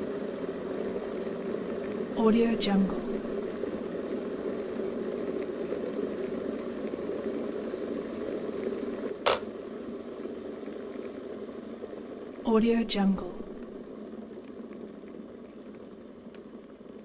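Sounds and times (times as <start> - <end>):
kettle boiling: 0.0 - 17.0.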